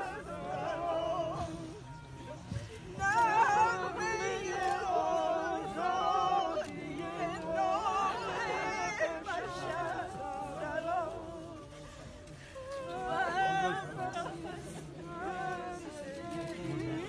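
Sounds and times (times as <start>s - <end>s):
people singing together: 0.0s - 17.0s.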